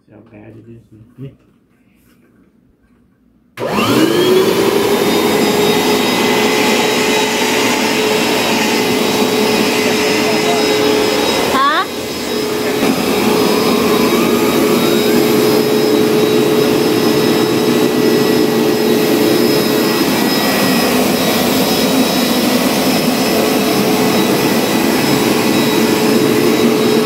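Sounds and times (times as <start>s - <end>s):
carpet cleaner motor whine: 3.6s - 27.0s
suction rushing: 3.6s - 27.0s.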